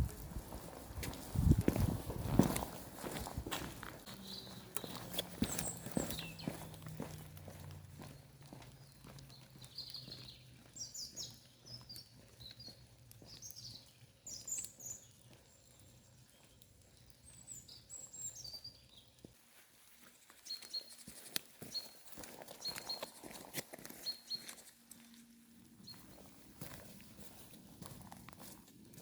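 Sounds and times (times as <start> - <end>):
small birds chirping: 0.0 - 28.6.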